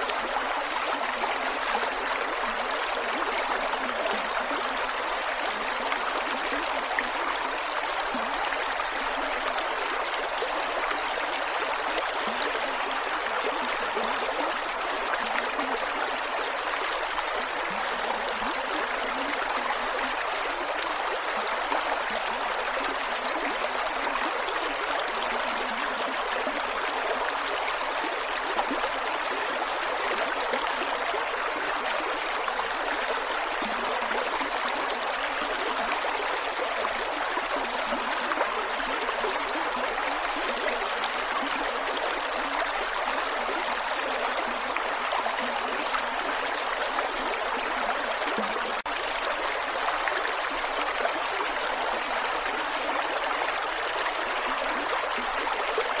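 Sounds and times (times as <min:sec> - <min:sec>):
creek water over rocks: 0:00.0 - 0:56.0.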